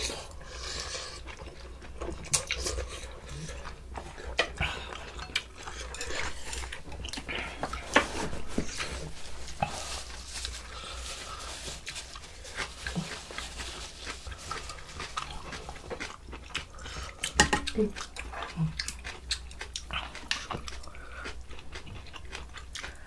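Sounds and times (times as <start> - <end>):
people chewing and slurping: 0.0 - 23.0.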